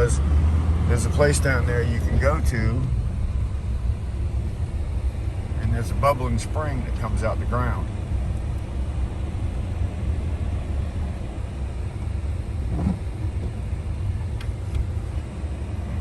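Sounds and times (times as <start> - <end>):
truck engine rumble: 0.0 - 16.0.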